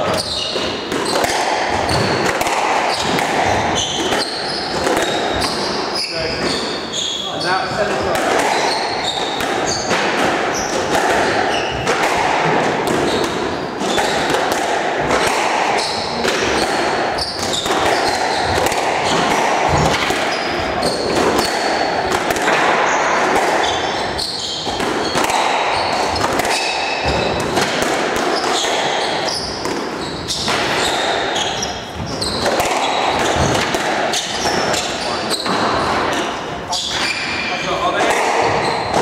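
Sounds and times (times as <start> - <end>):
ball smacking court walls: 0.0 - 6.8, 7.4 - 39.0
squash ball cracking off rackets: 0.0 - 6.8, 7.8 - 39.0
shoes squeaking on wooden floor: 0.0 - 22.2, 22.8 - 39.0.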